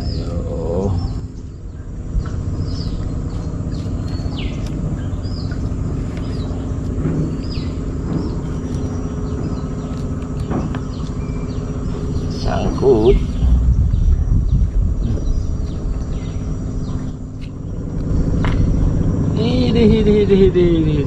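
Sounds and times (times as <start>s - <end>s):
birds whistling downward notes: 0.0s - 21.0s
low droning hum: 0.0s - 21.0s.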